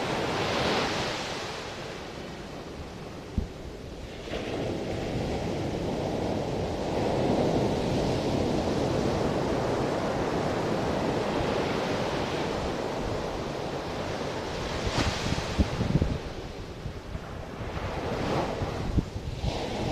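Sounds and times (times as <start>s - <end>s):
ocean surf breaking on beach: 0.0s - 19.9s
wind on microphone: 0.0s - 19.9s.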